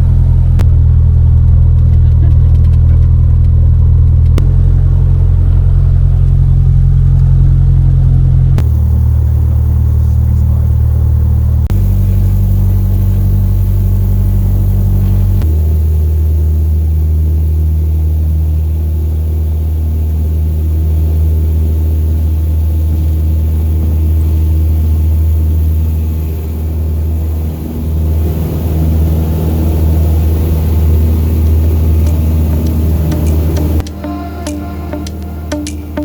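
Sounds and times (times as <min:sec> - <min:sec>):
aircraft engine and propeller droning: 0:00.0 - 0:36.0.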